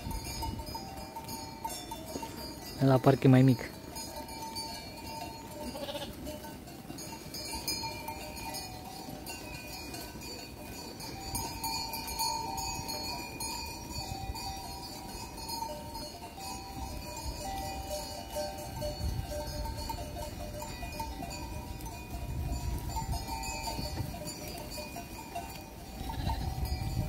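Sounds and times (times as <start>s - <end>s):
sheep bells ringing: 0.0s - 27.0s.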